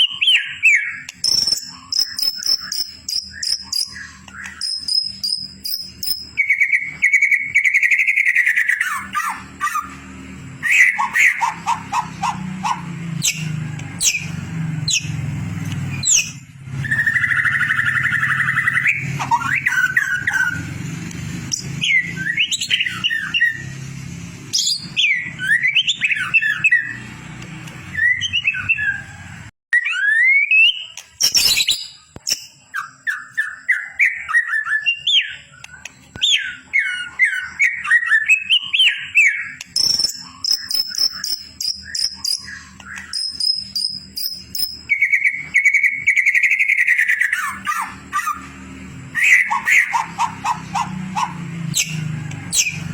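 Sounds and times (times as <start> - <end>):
songbird whistling and trilling: 0.0 - 23.8, 24.5 - 52.9.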